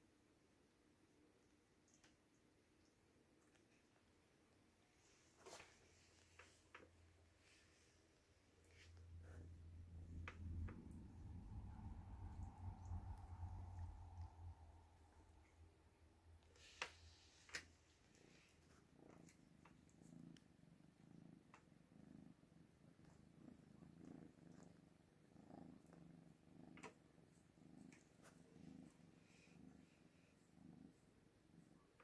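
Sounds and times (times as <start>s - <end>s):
kitten purring softly: 0.0s - 32.0s.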